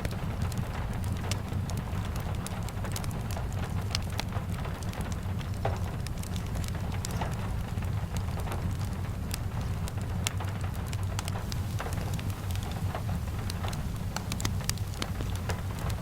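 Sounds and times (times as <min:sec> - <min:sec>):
low steady rumble: 0:00.0 - 0:16.0
rain falling: 0:00.0 - 0:16.0
wood fire crackling: 0:00.0 - 0:16.0.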